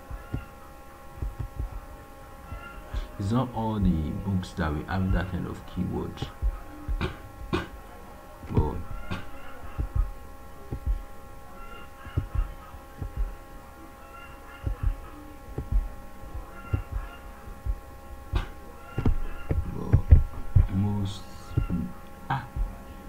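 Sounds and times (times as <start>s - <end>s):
soft low thumps: 0.0s - 2.0s, 2.9s - 4.2s, 4.8s - 13.6s, 14.6s - 23.0s
faint electrical hum: 0.0s - 23.0s.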